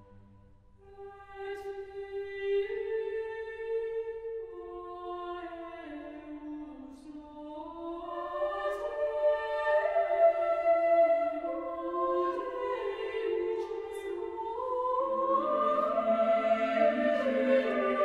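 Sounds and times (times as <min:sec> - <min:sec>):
slow music of held notes: 0:00.0 - 0:18.0.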